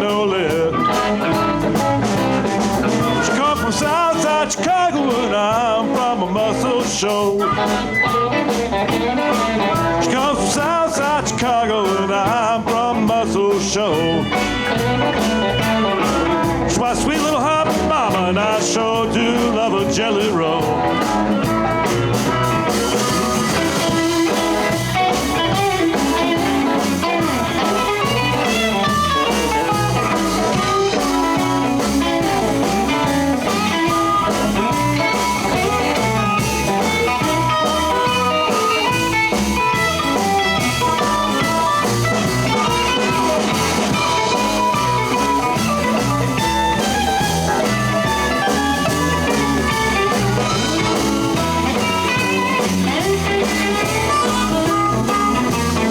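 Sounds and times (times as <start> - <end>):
live blues band playing: 0.0 - 55.9.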